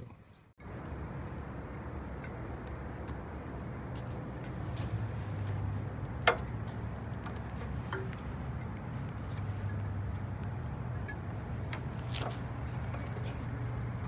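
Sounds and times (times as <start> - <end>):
handling sounds at an engine: 2.1 - 14.0.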